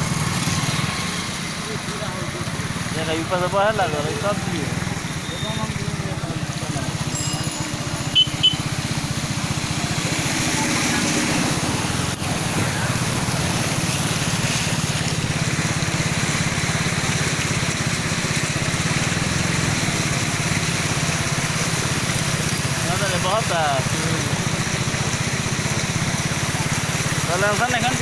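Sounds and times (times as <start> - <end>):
motorcycle engine running: 0.0 - 28.0
water splashing around wheels: 0.0 - 28.0.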